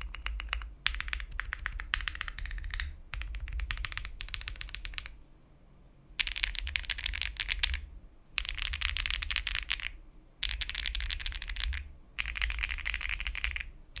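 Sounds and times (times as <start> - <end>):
rapid mechanical keyboard typing: 0.0 - 5.2, 6.2 - 14.0.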